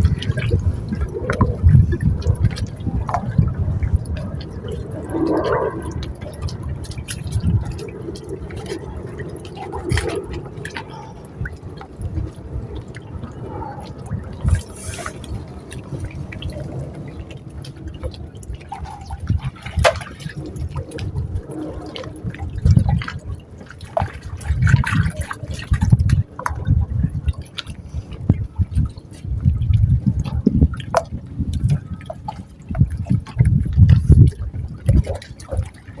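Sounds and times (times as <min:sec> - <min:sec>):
sea water sloshing and splashing: 0:00.0 - 0:36.0.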